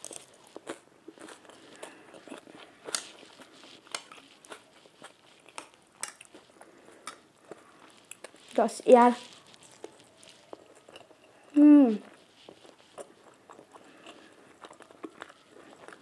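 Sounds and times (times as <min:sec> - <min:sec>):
chewing with crunches: 0:00.0 - 0:16.0.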